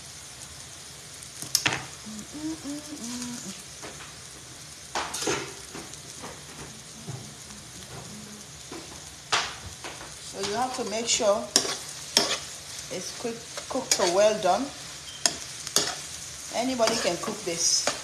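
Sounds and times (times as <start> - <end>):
eggs sizzling in a skillet: 0.0 - 18.0.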